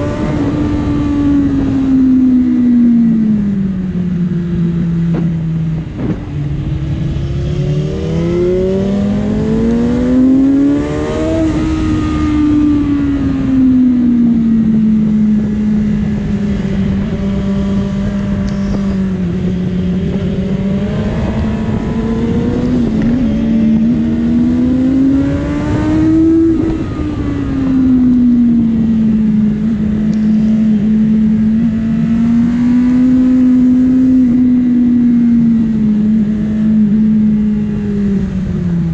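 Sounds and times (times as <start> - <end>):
motorcycle engine revving: 0.0 - 38.9
wind rush over microphone: 0.0 - 38.9.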